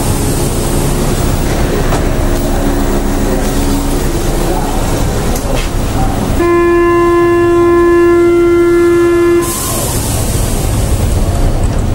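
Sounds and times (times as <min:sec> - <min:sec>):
loud warning tone: 0:00.0 - 0:10.1
train carriage rumble: 0:00.0 - 0:11.9.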